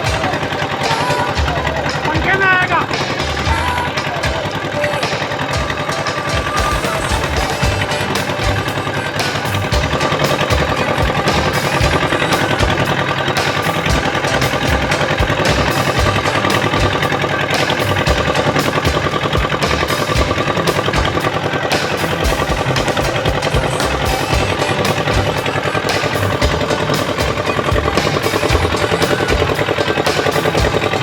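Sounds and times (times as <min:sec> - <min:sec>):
boat engine thudding: 0:00.0 - 0:31.0.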